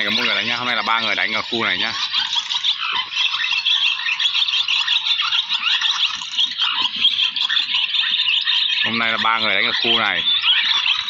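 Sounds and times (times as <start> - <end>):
swallows twittering: 0.0 - 11.0.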